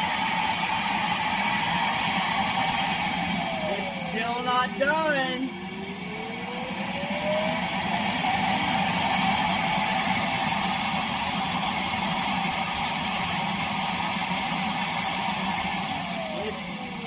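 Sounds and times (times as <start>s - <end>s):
suction motor rushing with high whine: 0.0s - 17.0s.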